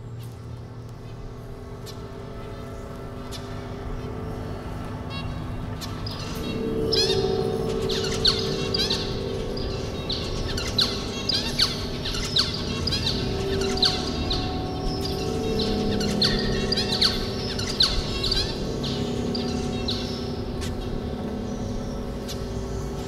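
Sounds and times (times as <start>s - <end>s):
low drone of held tones: 0.0s - 23.0s
finches chirping: 1.0s - 23.0s.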